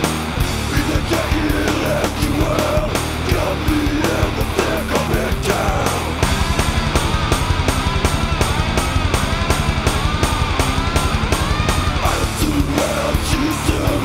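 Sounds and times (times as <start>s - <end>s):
distorted electric guitars: 0.0s - 14.0s
fast pounding drums: 0.0s - 14.0s.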